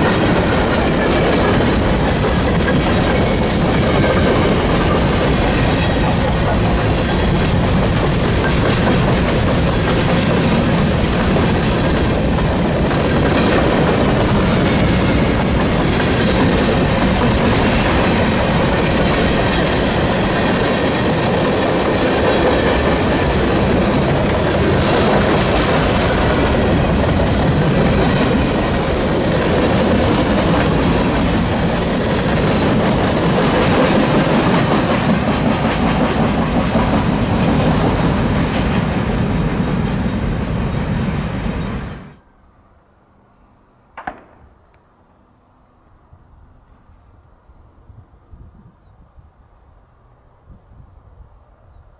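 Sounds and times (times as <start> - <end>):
freight train rolling past: 0.0 - 45.2.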